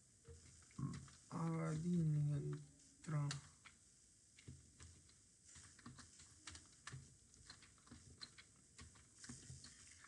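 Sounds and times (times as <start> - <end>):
faint keyboard typing: 0.3 - 10.0.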